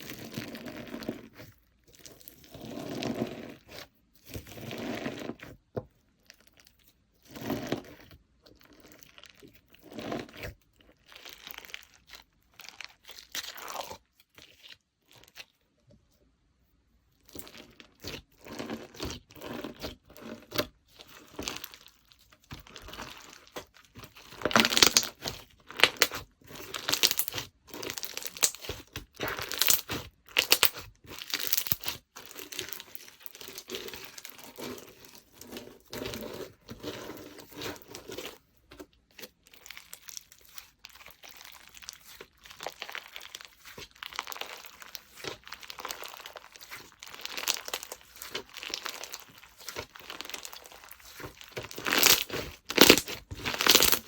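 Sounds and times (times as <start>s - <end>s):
slime squished by hand: 8.6s - 15.5s, 17.2s - 54.0s.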